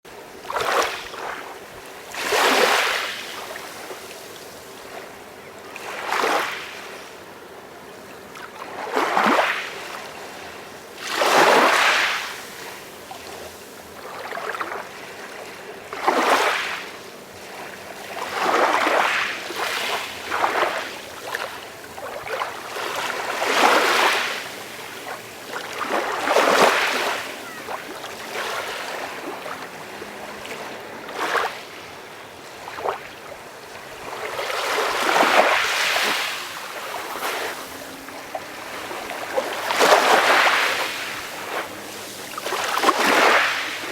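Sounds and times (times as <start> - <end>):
sea waves washing in: 0.2 - 43.9.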